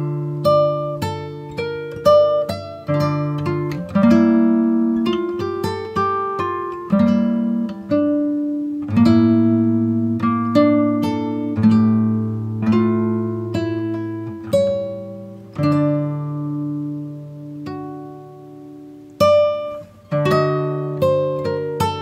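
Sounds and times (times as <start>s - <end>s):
acoustic guitar playing: 0.0s - 22.0s.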